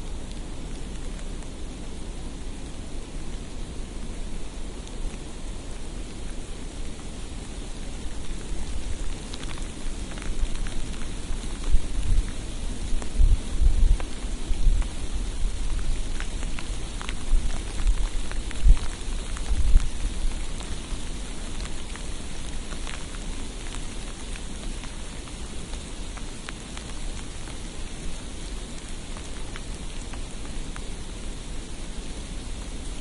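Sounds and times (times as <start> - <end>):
light patters of precipitation: 0.0 - 33.0
steady hiss of snowfall: 0.0 - 33.0.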